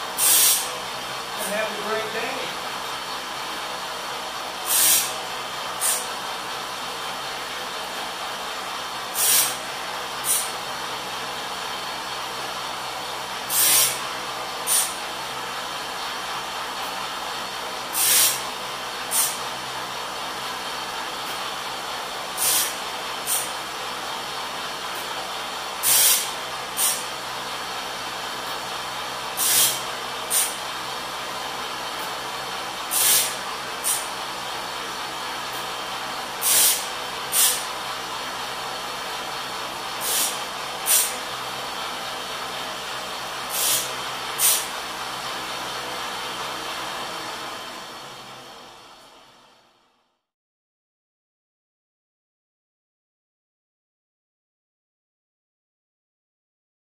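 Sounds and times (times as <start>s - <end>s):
grinding wheel humming: 0.0s - 49.5s.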